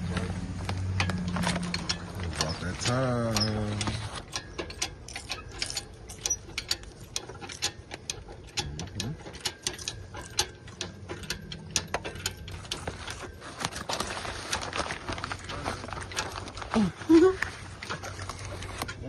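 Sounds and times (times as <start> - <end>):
engine hoist metal clicks and clanks: 0.0 - 19.0.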